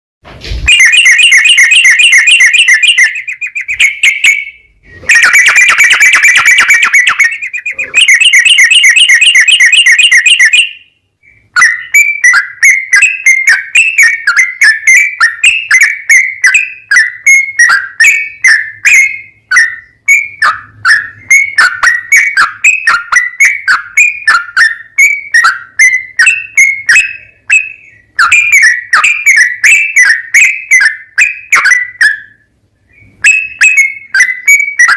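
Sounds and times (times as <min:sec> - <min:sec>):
bulbul singing trills: 0:00.7 - 0:34.9.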